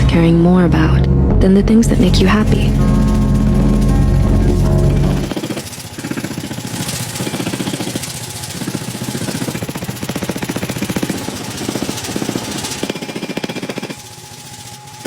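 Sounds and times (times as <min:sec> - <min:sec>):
power hammer striking steel: 0:01.9 - 0:15.0.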